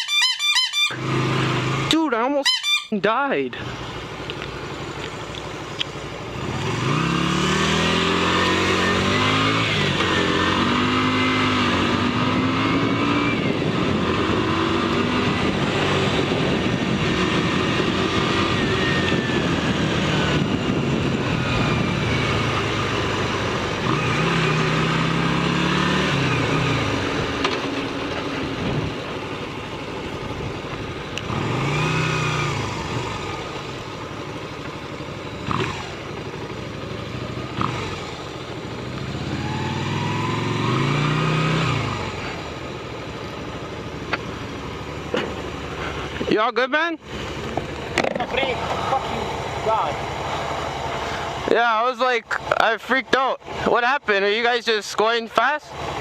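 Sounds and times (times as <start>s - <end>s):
motorcycle engine accelerating: 0.0s - 2.3s, 3.6s - 54.6s, 55.6s - 56.0s
wind and road noise: 0.0s - 56.0s.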